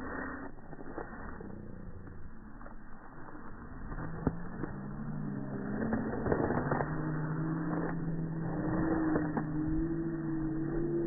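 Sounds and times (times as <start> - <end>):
motor hum rising in pitch: 1.3 - 11.0.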